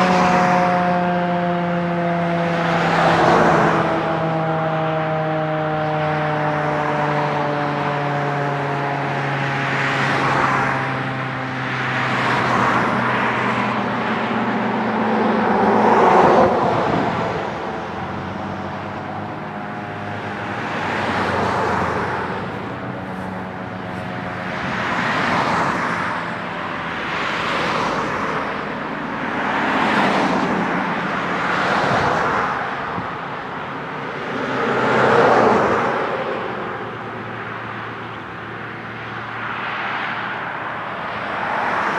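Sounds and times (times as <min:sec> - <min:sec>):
road traffic passing: 0:00.0 - 0:41.9
wailing warning siren: 0:00.0 - 0:41.9.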